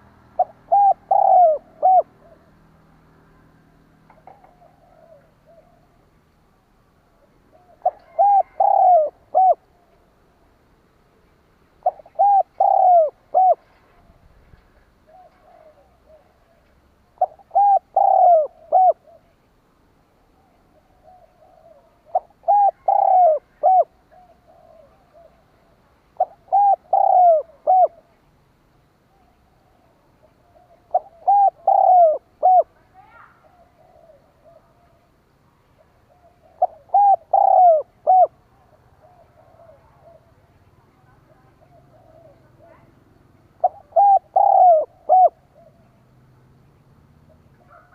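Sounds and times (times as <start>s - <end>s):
dove cooing: 0.0s - 2.8s, 4.0s - 6.1s, 7.2s - 9.9s, 11.8s - 19.5s, 20.4s - 28.2s, 29.1s - 46.1s, 47.2s - 47.9s.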